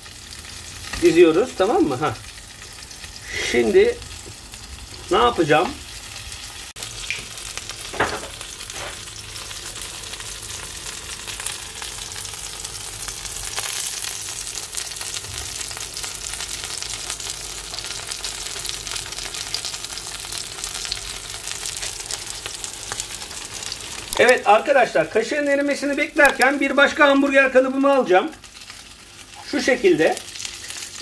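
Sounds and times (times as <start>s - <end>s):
burger patty sizzling in frying pan: 0.0s - 31.0s.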